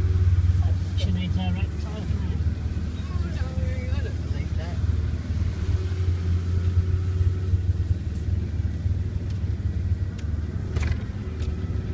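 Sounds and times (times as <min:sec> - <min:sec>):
low engine rumble: 0:00.0 - 0:11.9.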